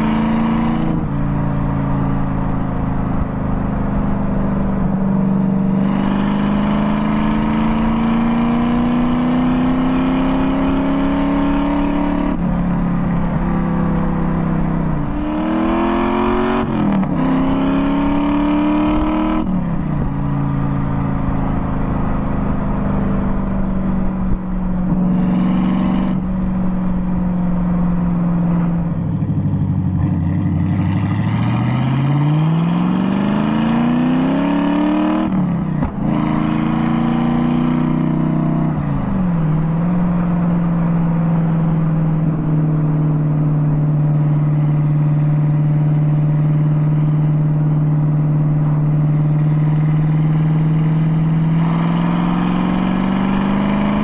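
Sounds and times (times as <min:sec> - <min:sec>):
car engine and exhaust revving: 0:00.0 - 0:54.0.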